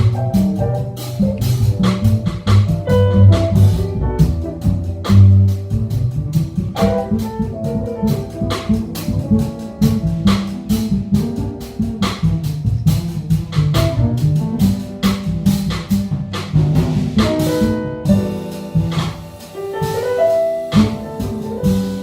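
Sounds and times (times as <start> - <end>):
double bass: 0.0 - 22.0
drum kit with cymbals: 0.0 - 22.0
jazz piano: 0.0 - 22.0.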